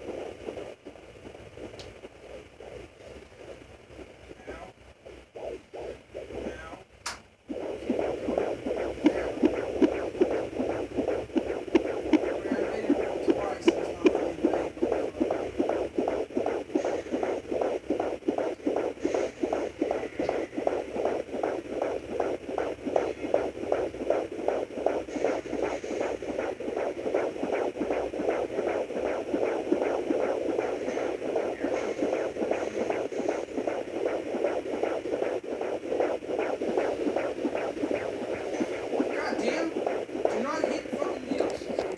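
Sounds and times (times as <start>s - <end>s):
fetal heartbeat pulses: 0.0s - 41.9s.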